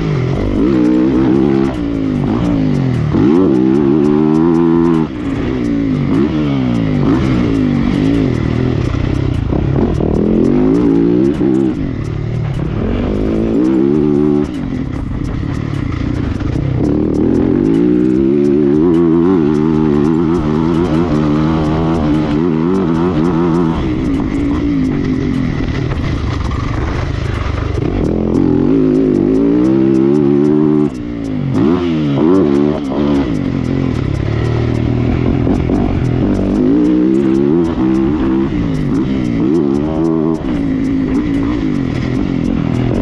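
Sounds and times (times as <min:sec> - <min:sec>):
motocross bike engine revving: 0:00.0 - 0:43.0.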